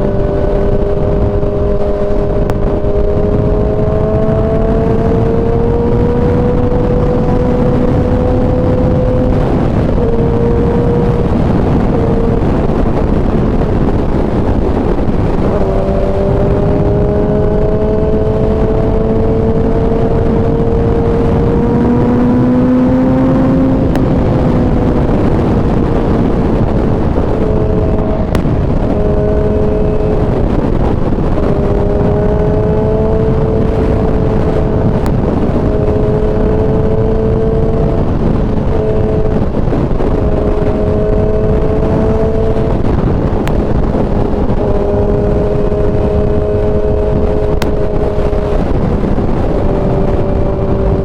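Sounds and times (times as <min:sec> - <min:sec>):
motorcycle engine running: 0:00.0 - 0:51.0
wind rush on microphone: 0:00.0 - 0:51.0.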